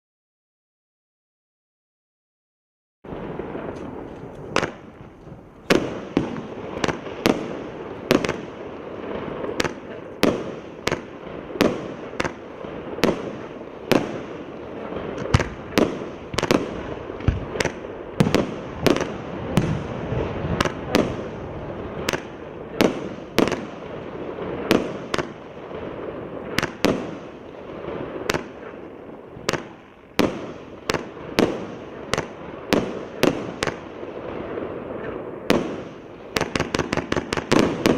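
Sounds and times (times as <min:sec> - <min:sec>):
firework bangs: 0:03.1 - 0:37.9.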